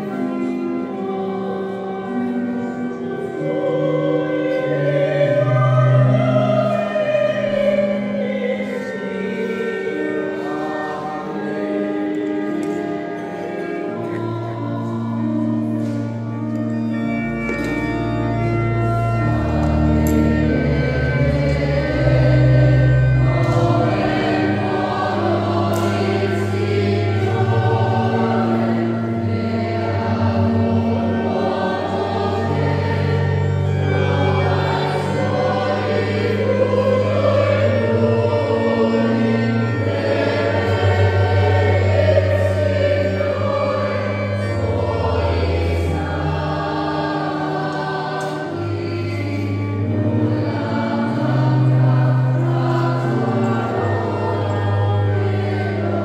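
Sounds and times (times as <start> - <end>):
choir singing a hymn: 0.0 - 56.0
long-held low accompanying notes: 0.0 - 56.0.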